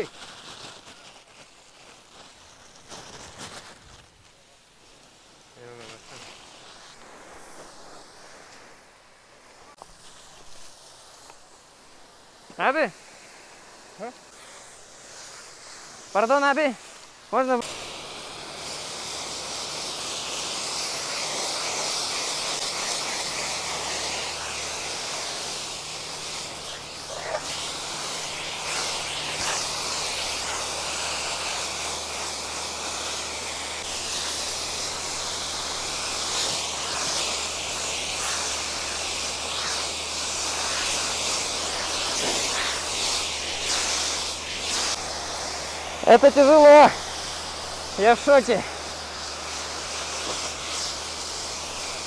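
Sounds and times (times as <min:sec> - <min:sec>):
water spraying from fire hose: 0:00.0 - 0:52.0.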